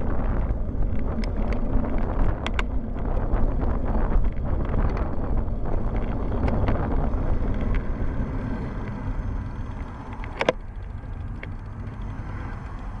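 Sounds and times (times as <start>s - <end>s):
bicycle rolling on asphalt: 0.0s - 13.0s
wind on microphone: 0.0s - 13.0s.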